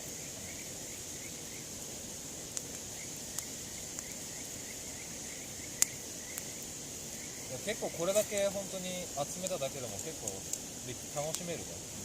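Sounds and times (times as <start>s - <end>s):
campfire wood popping: 0.0s - 12.0s
faint insect chirp: 0.0s - 12.0s
high insect drone: 0.0s - 12.0s.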